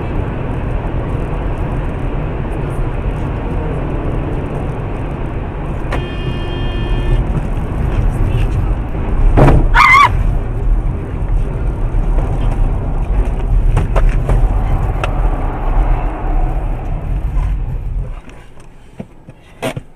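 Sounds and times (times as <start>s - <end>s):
car road and engine rumble: 0.0s - 19.9s.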